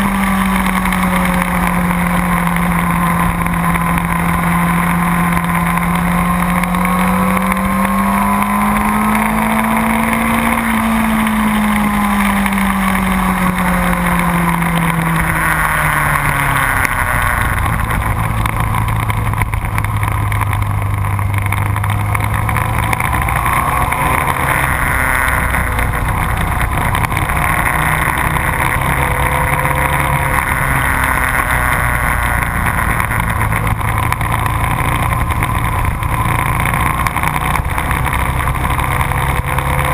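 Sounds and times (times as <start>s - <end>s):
constant rushing noise: 0.0s - 39.9s
motorcycle engine revving: 0.0s - 39.9s.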